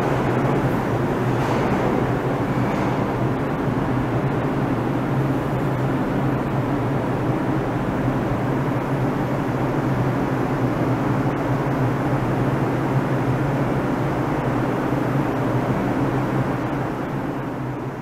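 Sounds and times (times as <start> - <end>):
subway train rolling on rails: 0.0 - 18.0.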